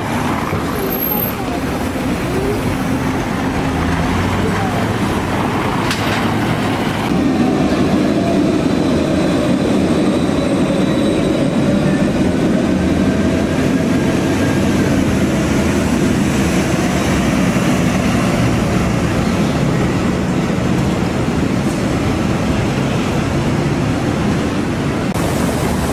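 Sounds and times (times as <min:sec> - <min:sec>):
city street traffic: 0:00.0 - 0:25.9
heavy vehicle engine running: 0:00.0 - 0:25.9.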